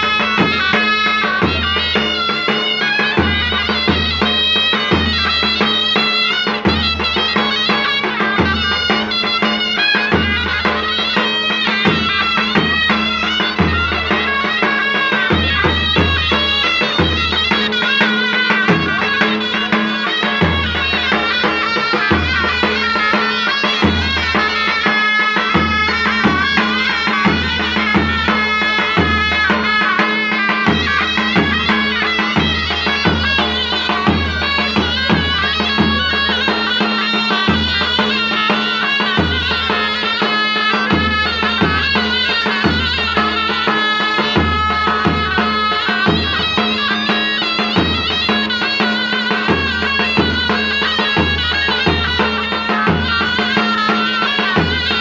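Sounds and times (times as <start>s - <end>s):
shrill reedy pipes melody: 0.0s - 55.0s.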